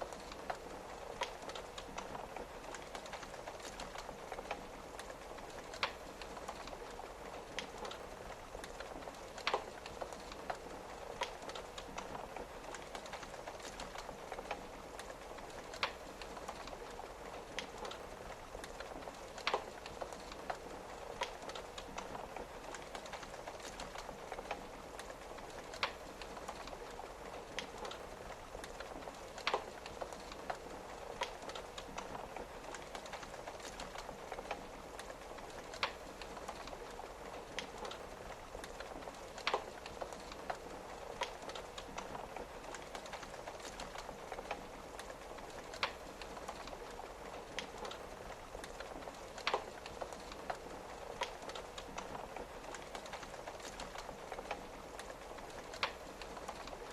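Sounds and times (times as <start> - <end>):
rain hissing against window: 0.0 - 56.9
wood fire crackling and popping: 0.0 - 56.9.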